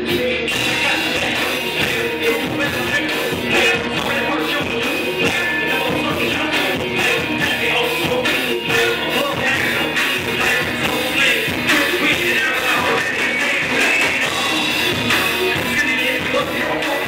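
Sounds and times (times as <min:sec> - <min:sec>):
drum kit beat: 0:00.0 - 0:17.0
electric guitar: 0:00.0 - 0:17.0
keyboard: 0:00.0 - 0:17.0
person singing: 0:00.0 - 0:17.0.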